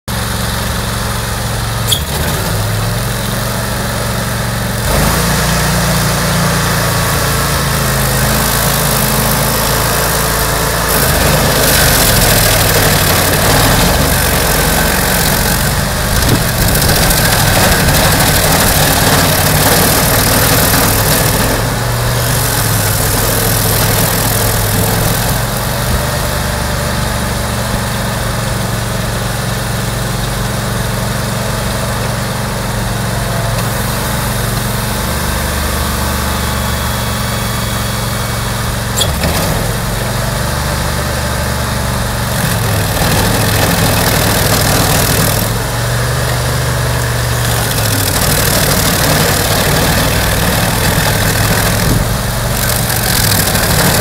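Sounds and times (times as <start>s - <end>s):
cutting wheel grinding wood: 0.1s - 54.0s
stump grinder engine running: 0.1s - 54.0s.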